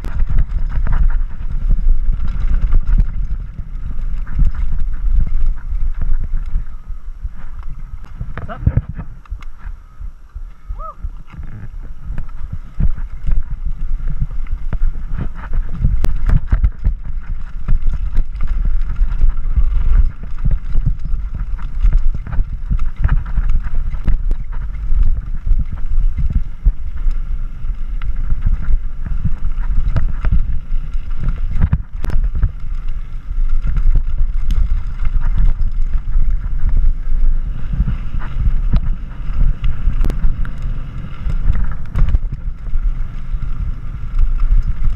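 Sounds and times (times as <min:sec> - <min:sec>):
bike rattling over stones: 0:00.0 - 0:44.9
wind buffeting microphone: 0:00.0 - 0:44.9.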